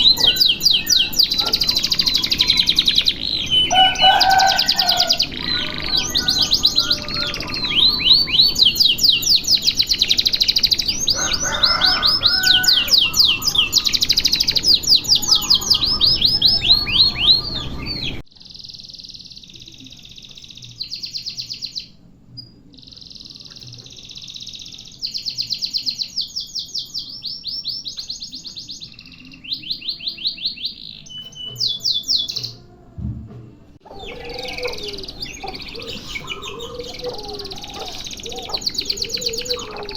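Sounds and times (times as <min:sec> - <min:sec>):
canary singing rolling trills: 0:00.0 - 0:33.0, 0:33.6 - 0:39.9.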